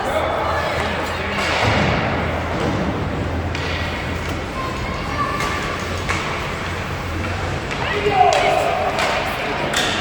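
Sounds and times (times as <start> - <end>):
crowd chatter: 0.0 - 10.0.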